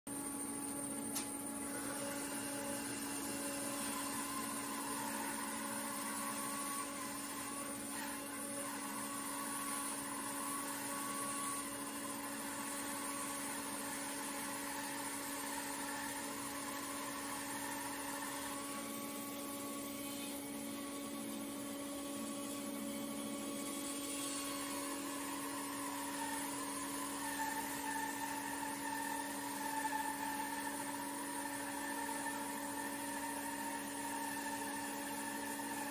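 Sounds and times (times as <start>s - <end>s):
bandsaw motor hum: 0.2s - 35.9s
saw blade cutting wood: 1.7s - 18.9s, 22.4s - 35.9s.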